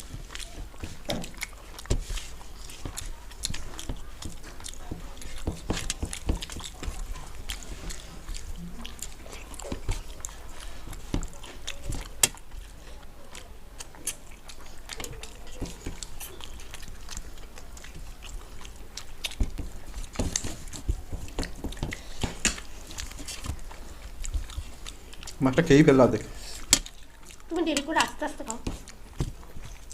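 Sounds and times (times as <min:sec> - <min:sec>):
lip smacks: 0:00.0 - 0:25.4, 0:26.4 - 0:29.9
people chewing and biting: 0:00.0 - 0:29.9.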